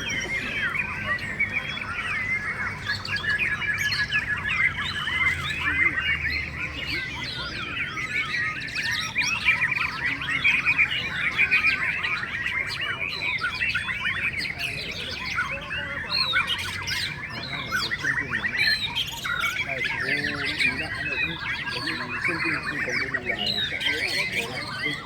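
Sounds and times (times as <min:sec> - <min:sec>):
many birds singing: 0:00.0 - 0:25.0.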